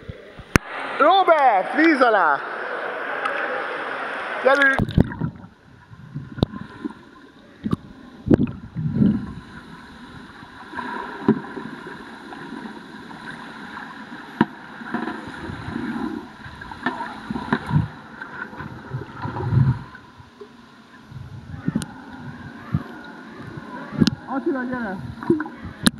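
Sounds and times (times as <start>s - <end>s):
underwater water swirling and sloshing: 1.4s - 25.9s.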